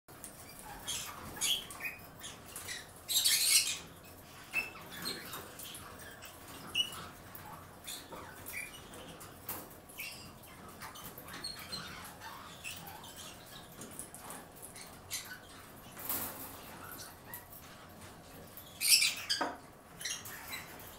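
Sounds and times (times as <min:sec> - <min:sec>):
parrots scratching and clicking: 0:00.1 - 0:20.9
parrot squeaks: 0:00.4 - 0:09.2, 0:09.9 - 0:15.6, 0:18.6 - 0:20.9.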